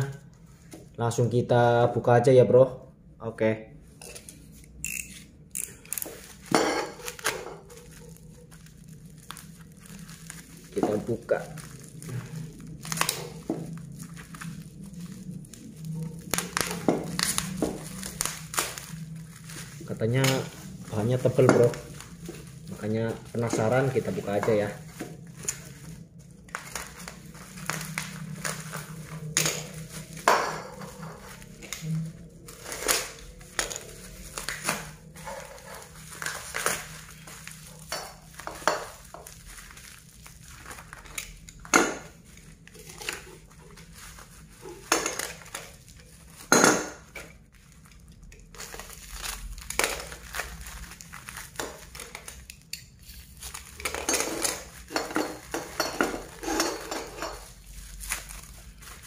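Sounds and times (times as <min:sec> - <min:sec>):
packaging scraping and ripping: 0:04.1 - 0:59.0.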